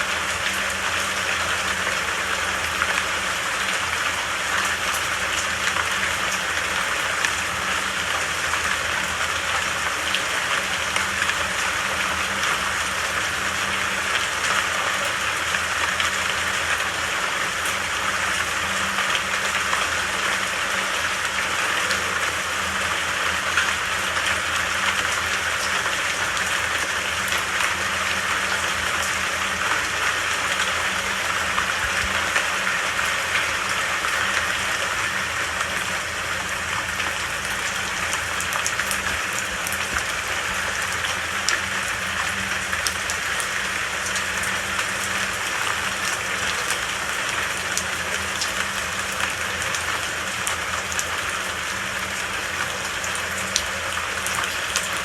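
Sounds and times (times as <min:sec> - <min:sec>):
rain hissing and pattering: 0:00.0 - 0:55.0.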